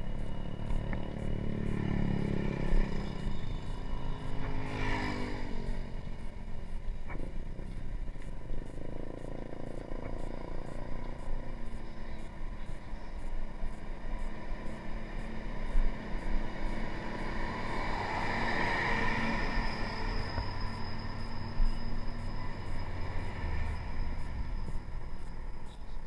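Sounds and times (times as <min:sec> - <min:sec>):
traffic engines: 0:00.0 - 0:26.0
vehicle passing: 0:00.0 - 0:26.0.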